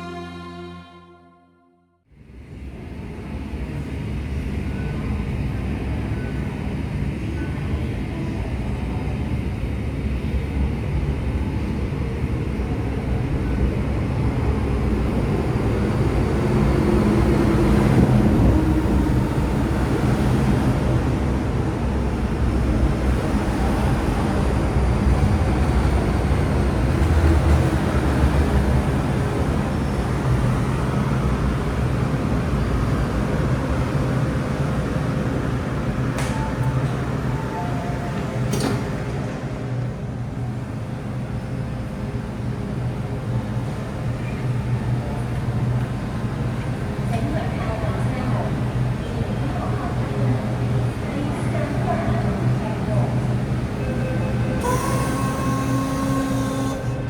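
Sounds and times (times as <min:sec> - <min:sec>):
train running rumble: 0:02.3 - 0:57.0.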